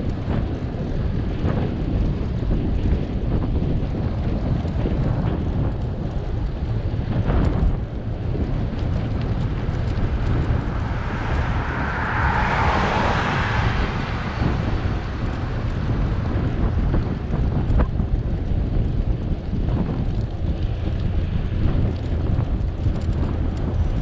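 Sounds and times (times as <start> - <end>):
passing vehicle: 0.0 - 24.0
wind buffeting microphone: 0.0 - 24.0.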